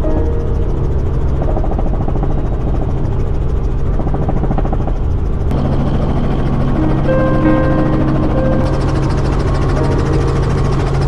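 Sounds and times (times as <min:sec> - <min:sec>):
steady tones: 0:00.0 - 0:04.0, 0:04.9 - 0:11.0
helicopter rotor chop: 0:00.0 - 0:11.0.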